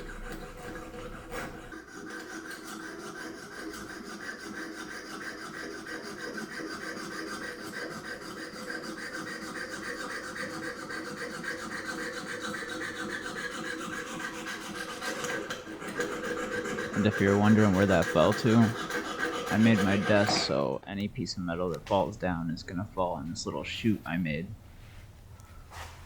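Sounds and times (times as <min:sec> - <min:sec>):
hand saw cutting metal: 0:00.0 - 0:20.8.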